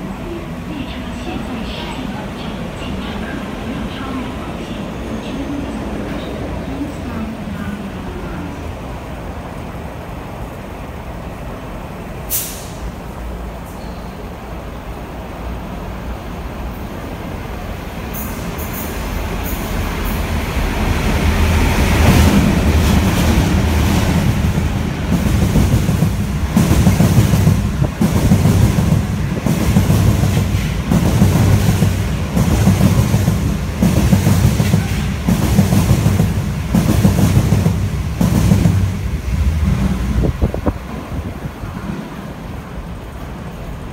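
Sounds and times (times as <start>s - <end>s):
diesel locomotive passing: 0.0s - 43.9s.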